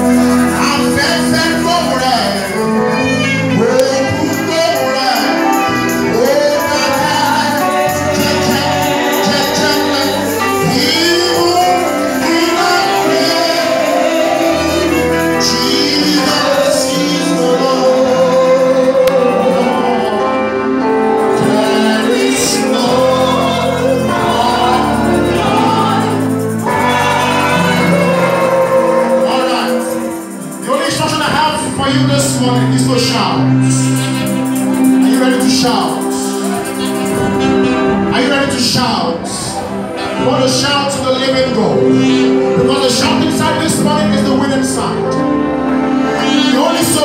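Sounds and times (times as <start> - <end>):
band with bass line: 0.0 - 47.0
congregation singing gospel: 0.0 - 47.0.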